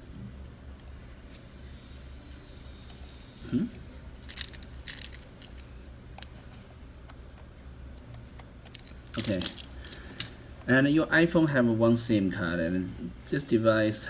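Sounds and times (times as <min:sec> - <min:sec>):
steady low background hum: 0:00.0 - 0:14.0.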